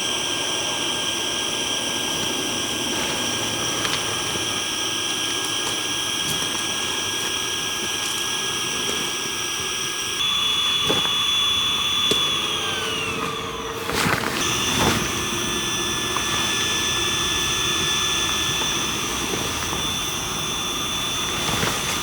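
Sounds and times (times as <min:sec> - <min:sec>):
electric air pump whining: 0:00.0 - 0:22.0.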